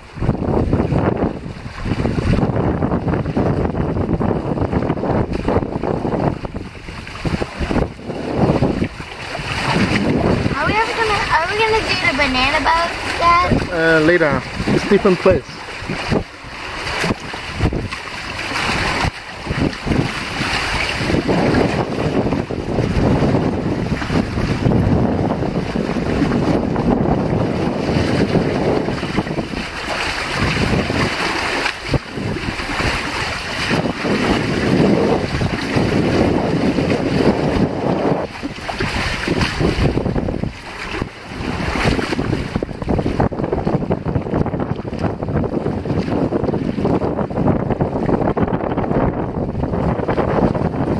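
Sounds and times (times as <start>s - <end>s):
water splashing along hull: 0.0s - 50.9s
wind buffeting microphone: 0.0s - 50.9s.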